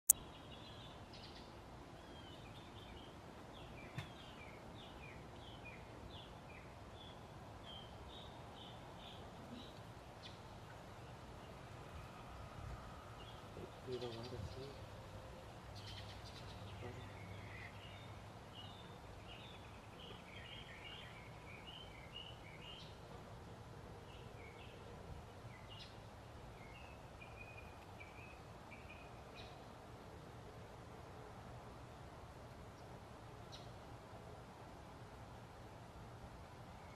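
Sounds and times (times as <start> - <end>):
small birds chirping: 0.1 - 23.2, 23.9 - 29.8, 32.6 - 34.2
faint outdoor hiss: 0.1 - 36.9.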